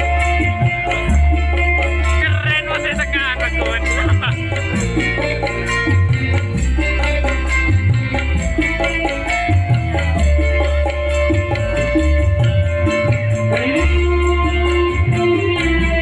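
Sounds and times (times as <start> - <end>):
band music with drums and bass: 0.0 - 16.0.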